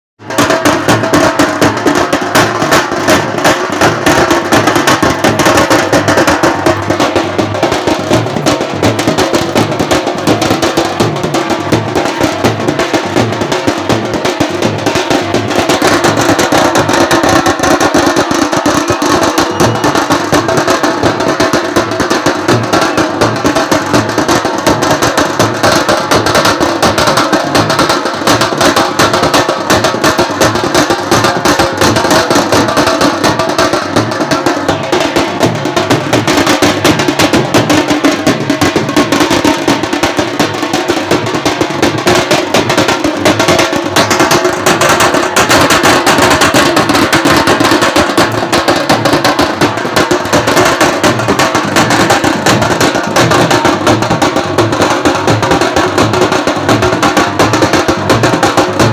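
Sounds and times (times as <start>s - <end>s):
fast drumming: 0.2s - 58.9s.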